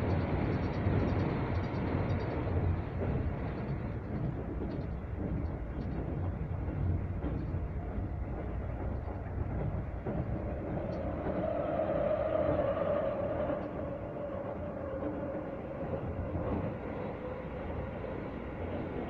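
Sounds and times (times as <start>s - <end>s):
electric train whine: 0.0s - 19.0s
train rumble: 0.0s - 19.0s.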